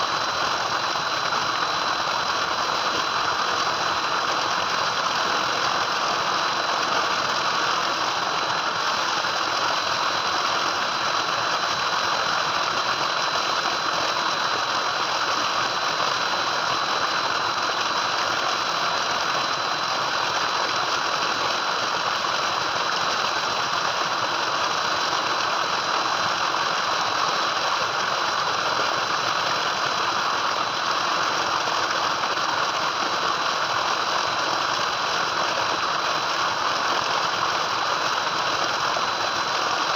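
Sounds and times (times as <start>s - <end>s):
water gushing from pipe into tank: 0.0s - 39.9s.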